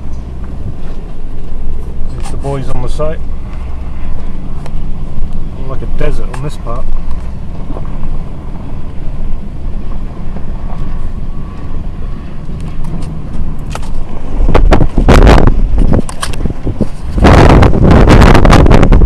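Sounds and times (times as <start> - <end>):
truck engine rumbling: 0.0 - 19.0
wind buffeting microphone: 0.0 - 19.0.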